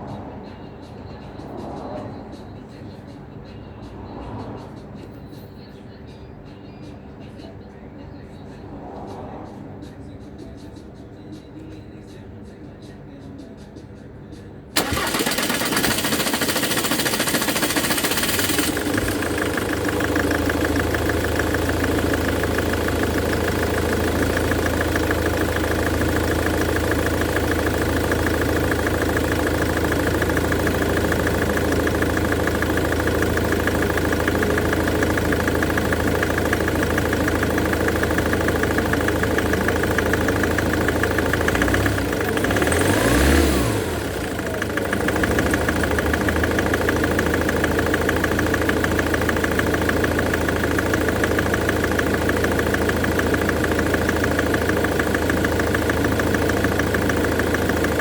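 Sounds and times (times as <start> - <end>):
car engine starting and idling: 0.0 - 10.8, 14.6 - 58.0.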